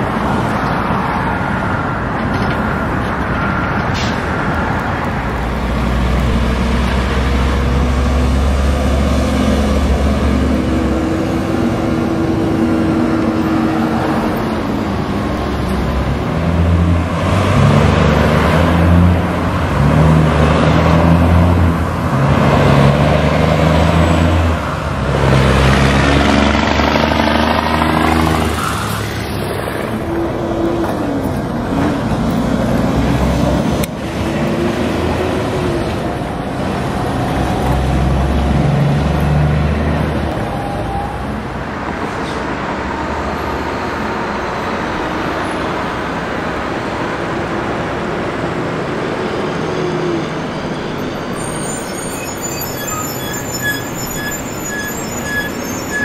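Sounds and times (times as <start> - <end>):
diesel dump trucks accelerating: 0.0 - 56.0.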